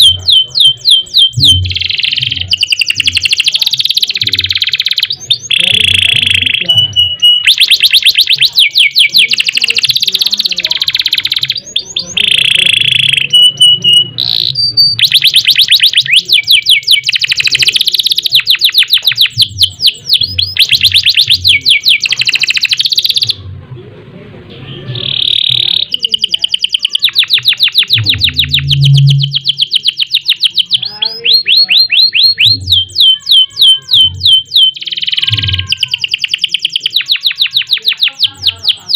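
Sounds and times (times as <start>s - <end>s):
canary singing trills: 0.0s - 23.4s, 24.5s - 38.9s.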